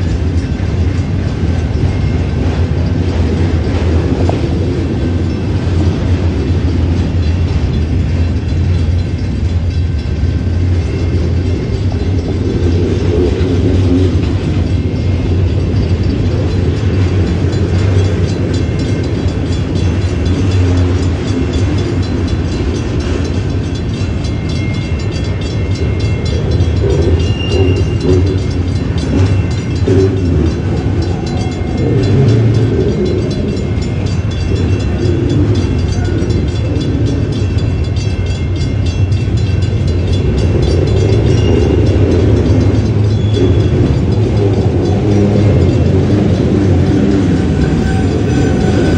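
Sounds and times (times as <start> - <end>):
electronic crossing bell ringing: 0.0 - 48.9
train wheels rumbling on rails: 0.0 - 48.9.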